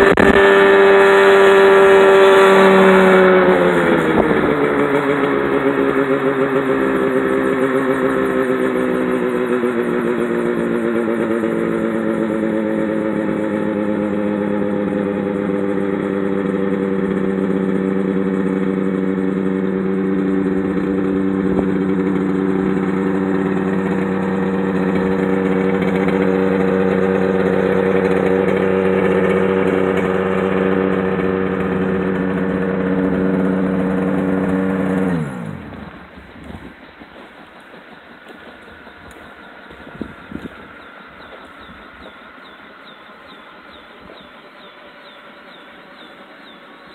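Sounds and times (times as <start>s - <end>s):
two-stroke helicopter engine running: 0.0s - 46.9s.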